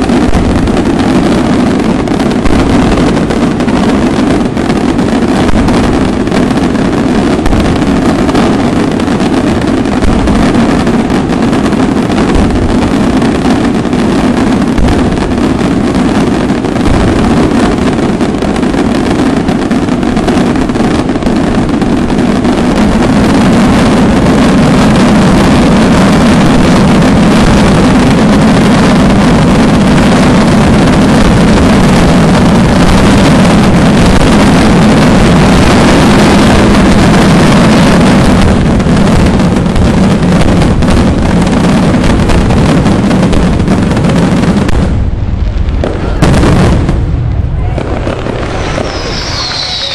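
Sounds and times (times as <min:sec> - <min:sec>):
firecrackers crackling: 0:00.0 - 0:49.9.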